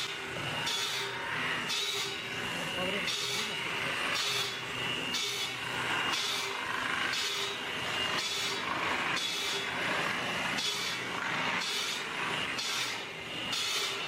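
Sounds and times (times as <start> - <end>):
saw rasping through wood: 0.0 - 14.0.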